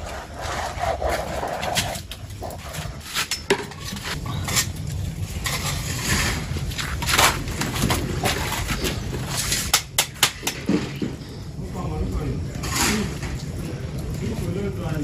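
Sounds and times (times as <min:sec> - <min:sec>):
wood and charcoal scraping: 0:00.0 - 0:15.0.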